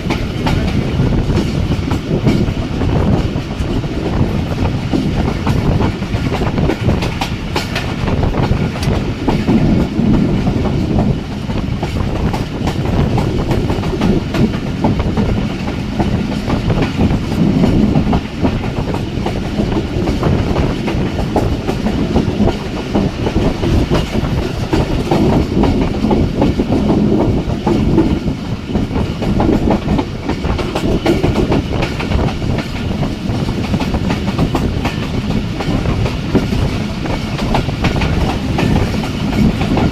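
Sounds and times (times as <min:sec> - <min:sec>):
train wheels rumbling on track: 0:00.0 - 0:39.9
wheels clacking over rail joints: 0:00.0 - 0:39.9.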